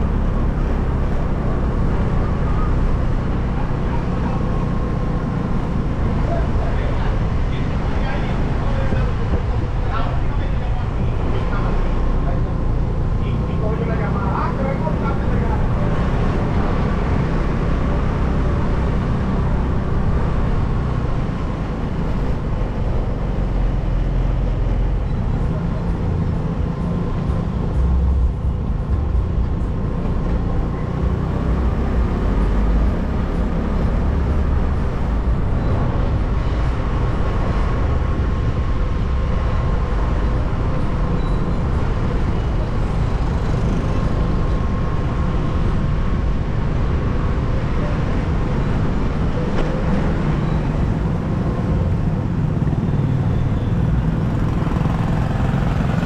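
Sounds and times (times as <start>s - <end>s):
road vehicle rumble: 0.0s - 56.0s.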